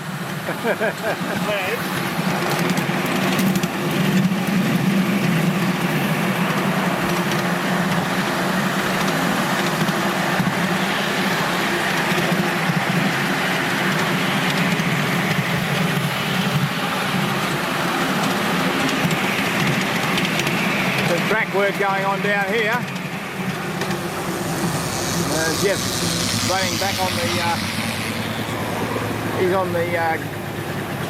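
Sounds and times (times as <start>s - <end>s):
miniature steam train running: 0.0s - 31.0s.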